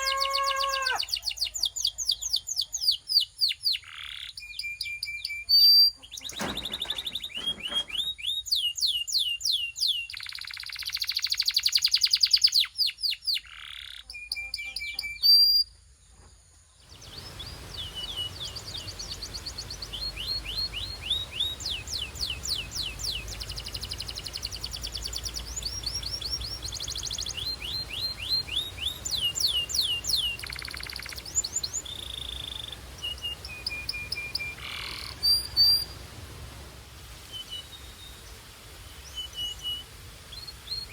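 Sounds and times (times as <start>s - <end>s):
canary singing trills: 0.0s - 15.7s, 16.9s - 36.0s
low background hiss: 0.0s - 40.9s.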